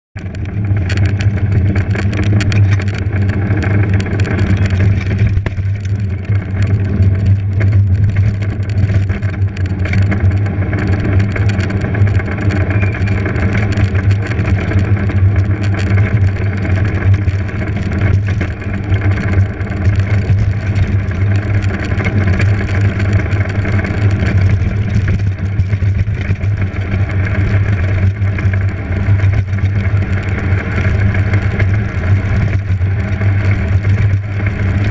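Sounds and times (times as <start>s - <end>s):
race vehicle engine rumble: 0.2s - 34.9s.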